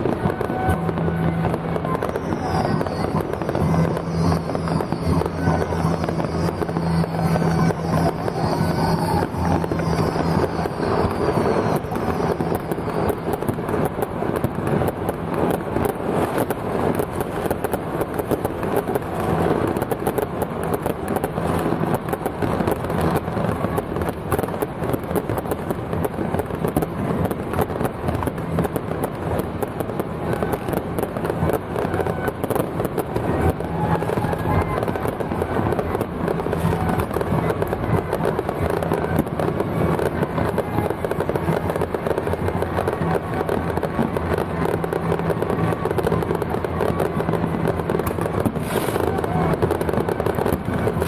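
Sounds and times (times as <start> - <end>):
firecrackers crackling: 0.0 - 51.0.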